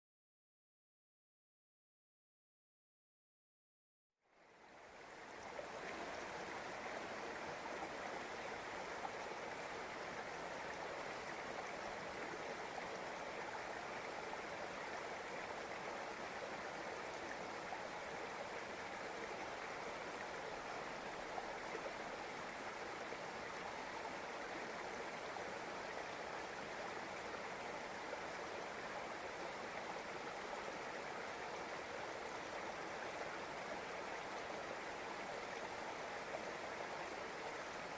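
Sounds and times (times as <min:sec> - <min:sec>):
river water rushing: 0:04.8 - 0:37.9.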